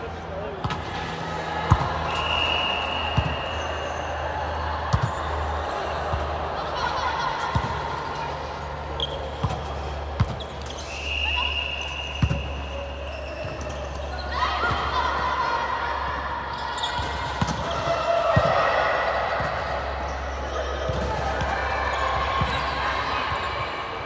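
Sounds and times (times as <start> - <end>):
players' voices: 0.0 - 24.0.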